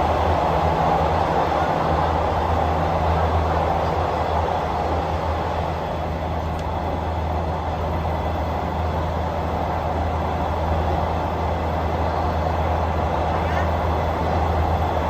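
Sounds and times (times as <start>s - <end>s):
passenger train running: 0.0s - 15.0s.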